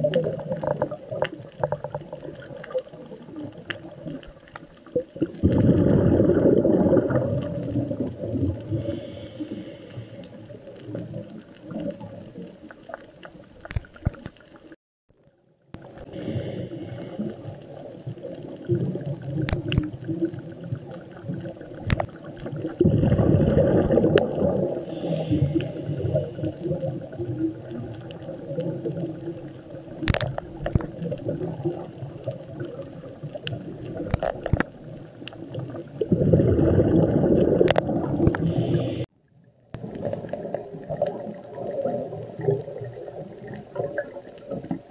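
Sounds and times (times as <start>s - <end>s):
low underwater rumbling: 0.0s - 14.7s, 15.7s - 44.9s
underwater bubbles gurgling: 0.0s - 44.9s.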